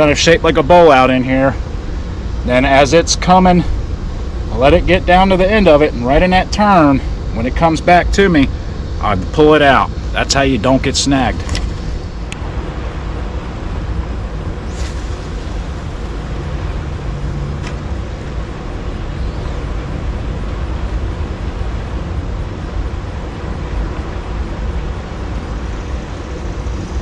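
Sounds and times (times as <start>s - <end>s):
rushing water and machinery: 0.0s - 27.0s.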